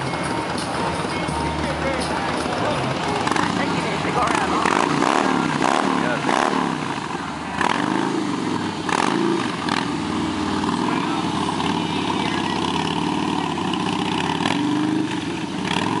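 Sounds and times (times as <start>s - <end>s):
motorcycle engine at low revs: 1.6s - 16.0s.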